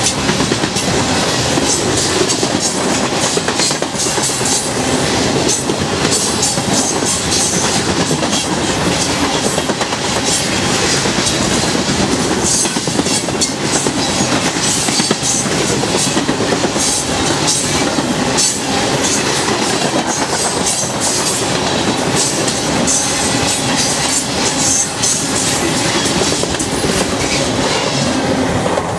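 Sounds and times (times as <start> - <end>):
train wheels rumbling on rail: 0.0 - 28.9.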